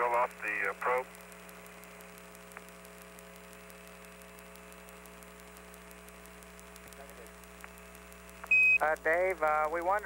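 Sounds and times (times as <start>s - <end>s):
faint ticking: 0.0s - 10.0s
radio channel hum and hiss: 0.0s - 10.0s.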